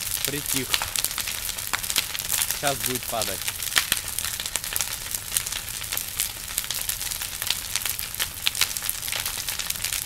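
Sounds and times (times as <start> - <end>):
bonfire crackling and popping: 0.0 - 10.0
rush of flames: 0.0 - 10.0.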